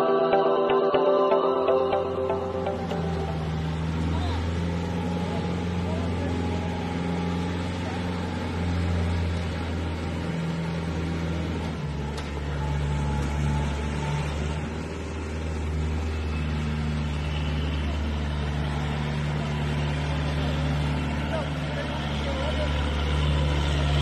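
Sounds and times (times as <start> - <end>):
tractor diesel engine running: 1.5 - 24.0.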